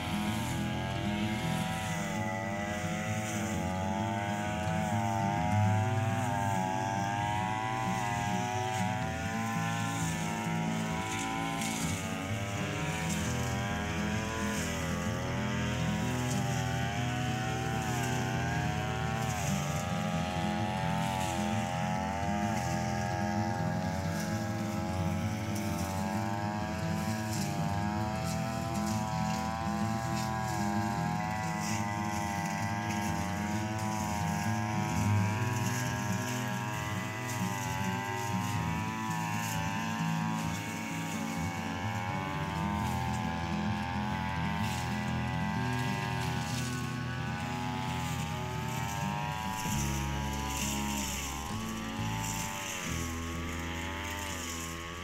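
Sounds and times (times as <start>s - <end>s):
brush cutter engine running: 0.0s - 55.0s
cutter mowing grass: 0.0s - 55.0s.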